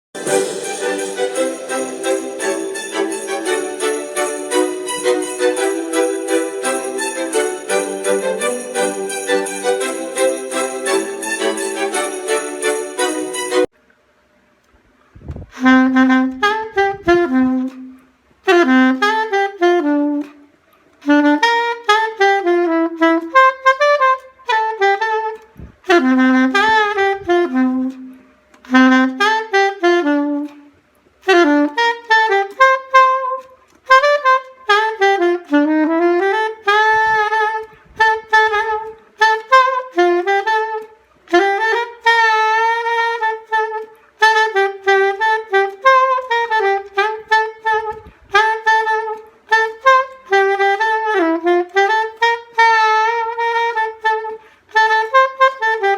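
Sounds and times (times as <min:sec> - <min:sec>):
solo saxophone melody: 0:00.2 - 0:13.7, 0:15.5 - 0:55.9.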